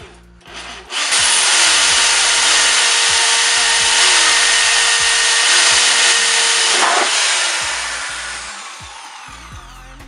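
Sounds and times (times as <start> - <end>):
electric drill drilling metal: 0.0 - 9.7.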